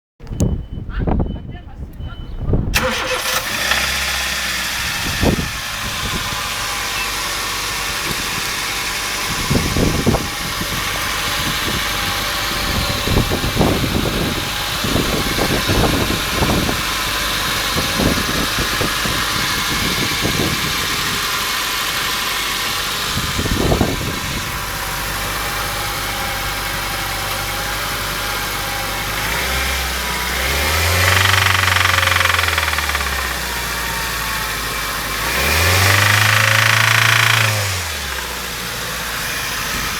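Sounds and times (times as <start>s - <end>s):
engine revving: 2.8s - 39.9s
car engine idling with knock: 4.2s - 39.9s.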